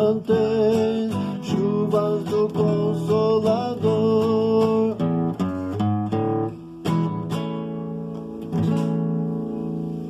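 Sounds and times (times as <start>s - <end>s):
acoustic guitar strummed chords: 0.0s - 10.0s.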